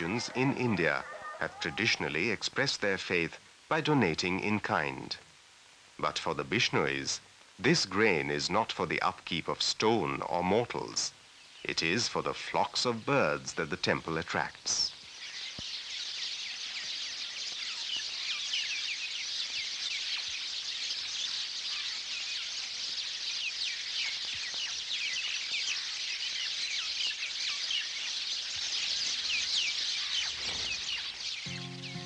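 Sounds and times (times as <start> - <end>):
flock of birds chirping: 0.0 - 5.2, 6.0 - 32.0.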